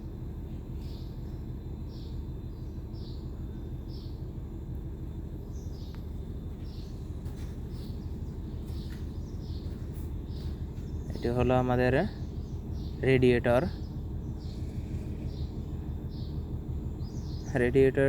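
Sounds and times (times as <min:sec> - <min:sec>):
low background rumble: 0:00.0 - 0:18.0
bird chirping: 0:00.7 - 0:04.4, 0:05.4 - 0:18.0.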